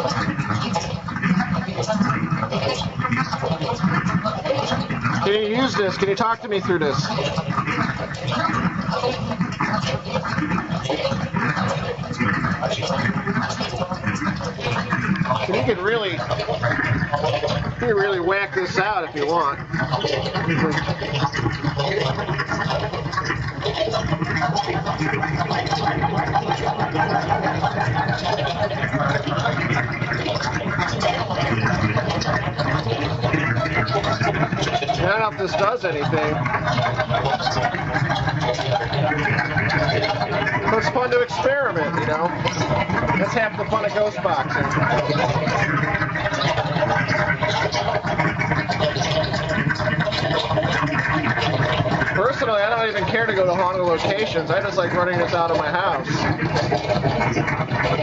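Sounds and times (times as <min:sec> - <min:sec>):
radio static sweeping: 0:00.0 - 0:58.0
snatches of broadcast sound: 0:00.0 - 0:58.0.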